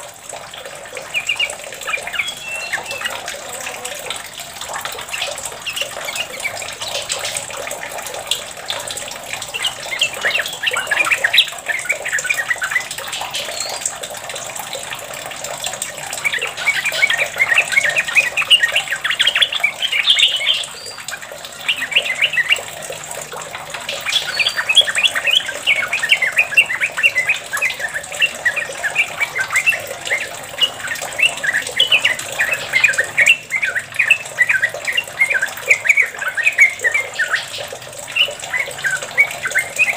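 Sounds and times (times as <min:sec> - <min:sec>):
bird chattering chirps: 0:01.0 - 0:04.2, 0:04.9 - 0:07.5, 0:09.4 - 0:13.9, 0:16.1 - 0:22.8, 0:24.0 - 0:39.9.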